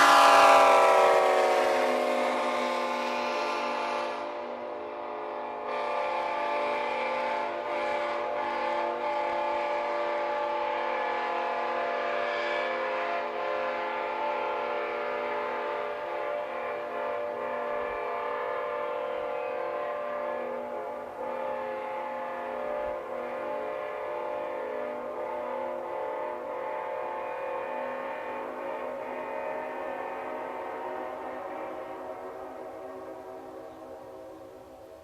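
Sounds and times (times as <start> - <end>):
locomotive air horn blast: 0.0 - 35.0.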